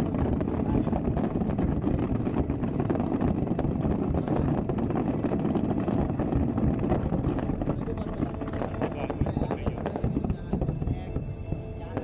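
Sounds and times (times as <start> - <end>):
fireworks pops and bangs: 0.0 - 12.0
low rumble: 0.0 - 12.0.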